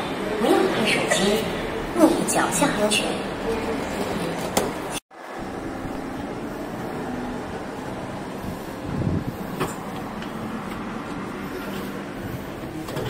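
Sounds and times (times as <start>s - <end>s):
train humming at platform: 0.0s - 13.0s.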